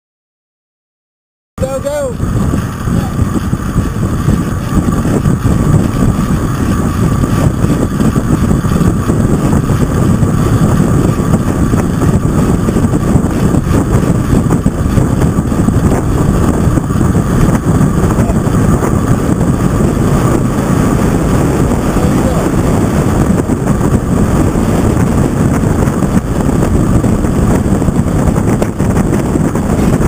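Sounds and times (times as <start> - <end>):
wind buffeting microphone: 1.6 - 30.0.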